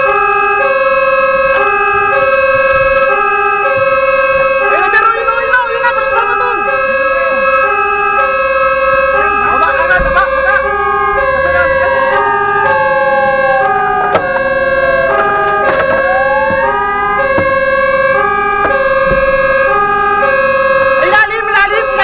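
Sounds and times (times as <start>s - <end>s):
steady high siren tones: 0.0s - 22.0s
two-tone siren: 0.0s - 22.0s
wailing siren: 0.0s - 22.0s.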